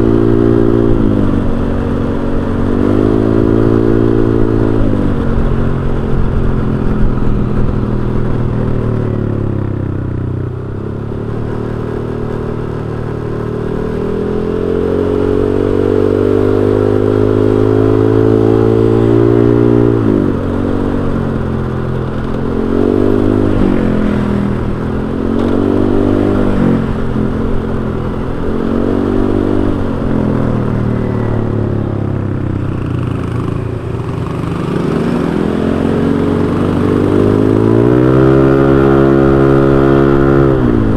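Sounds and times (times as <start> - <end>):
scooter engine revving: 0.0 - 40.9.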